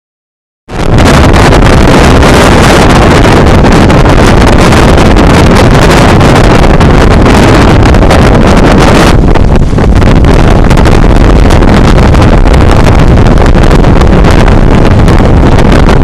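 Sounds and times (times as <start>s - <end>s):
wind buffeting microphone: 0.7s - 16.0s.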